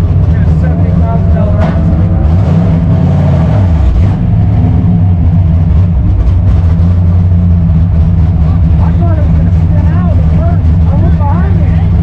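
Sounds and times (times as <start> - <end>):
car engine running loud: 0.0 - 12.0.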